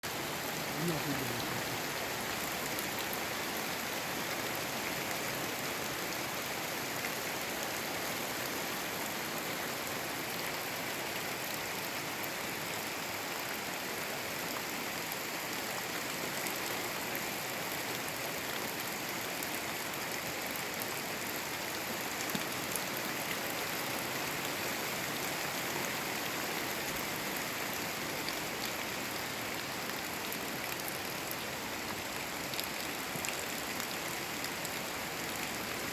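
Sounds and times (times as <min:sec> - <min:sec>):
rushing water: 0:00.0 - 0:35.9.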